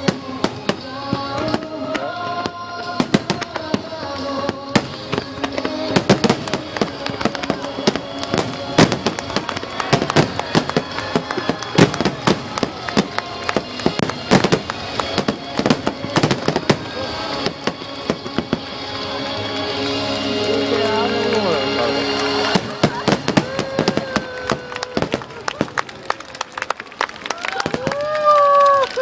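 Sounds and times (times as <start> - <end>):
background music: 0.0 - 25.3
fireworks bursting: 0.0 - 26.2.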